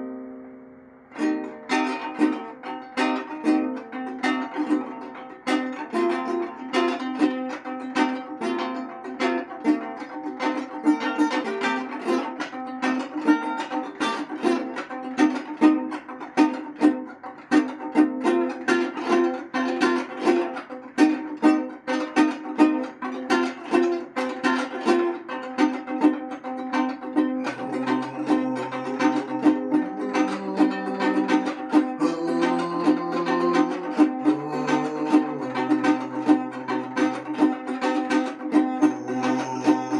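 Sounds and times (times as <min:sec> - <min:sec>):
plucked string instrument: 0:00.0 - 0:39.9.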